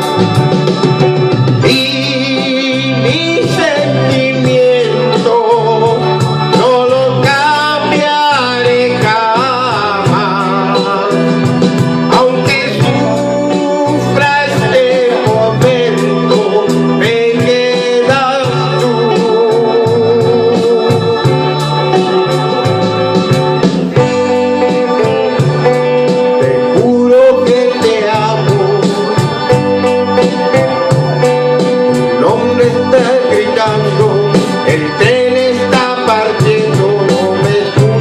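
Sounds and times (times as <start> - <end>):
electronic organ romantic song: 0.0 - 38.0.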